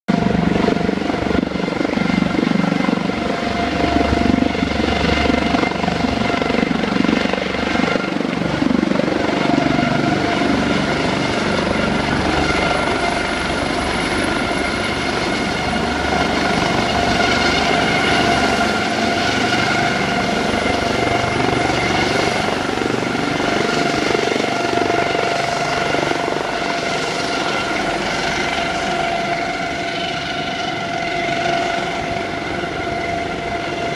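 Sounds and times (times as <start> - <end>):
helicopter rotor noise: 0.1 - 33.9
helicopter turbine whine: 0.1 - 33.9.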